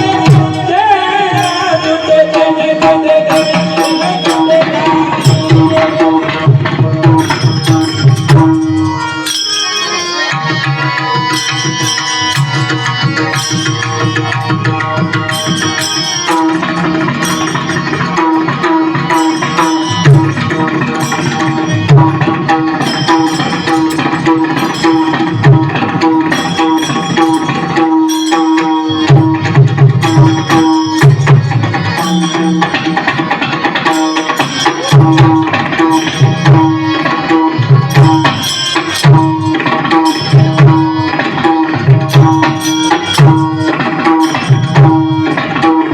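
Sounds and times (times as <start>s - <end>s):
tabla playing a steady rhythm: 0.0s - 45.9s
sustained melodic lines: 1.2s - 45.9s.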